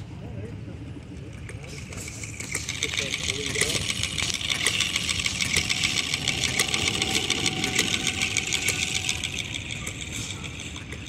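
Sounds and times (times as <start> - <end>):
model gas engine ticking: 1.2 - 11.0.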